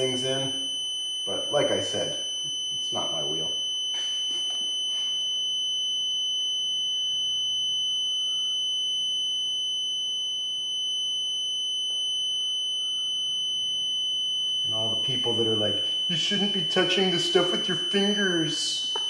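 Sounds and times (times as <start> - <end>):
high-pitched alarm buzzer: 0.0 - 19.0.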